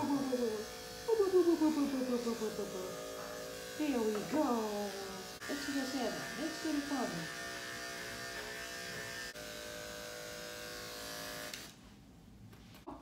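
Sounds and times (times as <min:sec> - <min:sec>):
electric clippers humming: 0:00.0 - 0:11.8.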